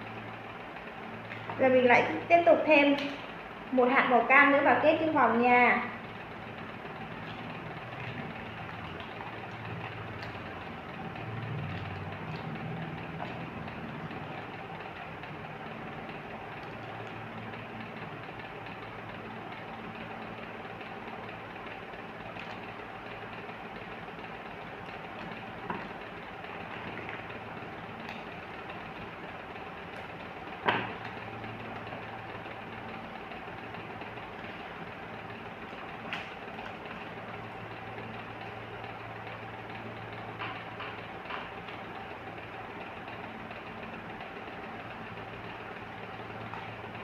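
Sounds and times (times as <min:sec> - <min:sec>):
machine background hum: 0:00.0 - 0:47.0.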